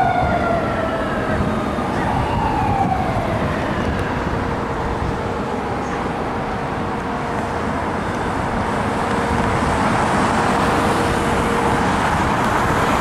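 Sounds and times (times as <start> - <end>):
tyres on road: 0.0 - 13.0
vehicle engines running: 0.0 - 13.0.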